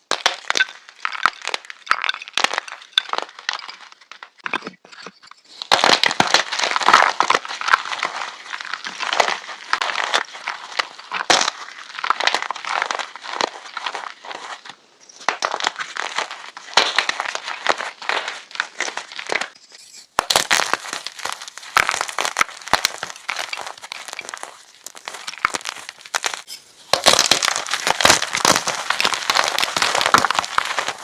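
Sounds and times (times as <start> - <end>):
chalk sticks crunching: 5.6 - 31.0.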